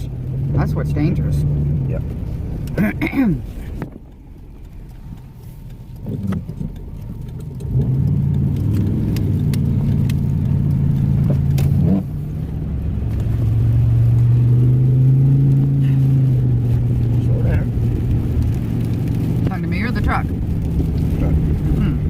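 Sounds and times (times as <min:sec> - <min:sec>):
road noise on slushy road: 0:00.0 - 0:22.0
vehicle engine drone: 0:00.0 - 0:22.0.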